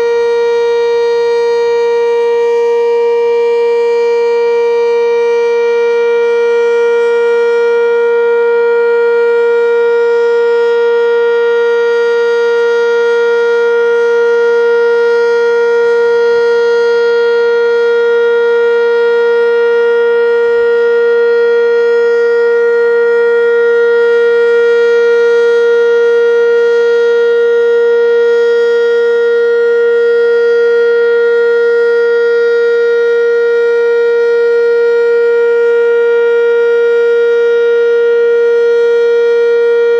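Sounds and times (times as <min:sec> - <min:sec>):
loud steady warning siren: 0:00.0 - 0:39.9.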